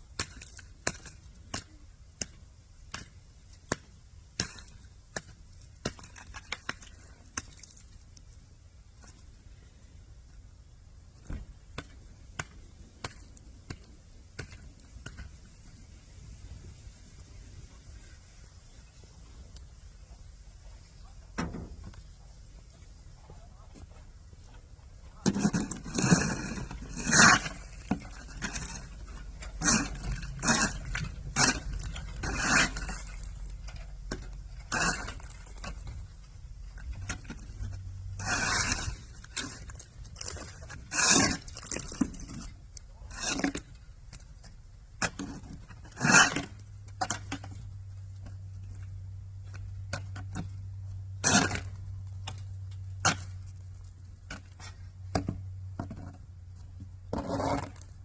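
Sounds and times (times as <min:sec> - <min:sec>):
low steady rumble: 0:00.0 - 0:58.0.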